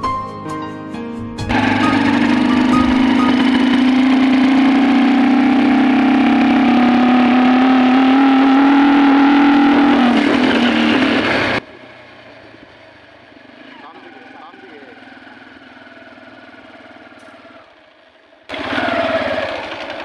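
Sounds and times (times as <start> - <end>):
motorcycle engine accelerating: 1.5 - 20.0.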